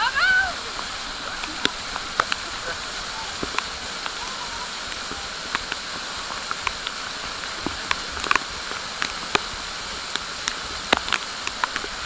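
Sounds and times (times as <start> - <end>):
drops ticking: 0.0 - 12.0
falling water hissing: 0.0 - 12.0.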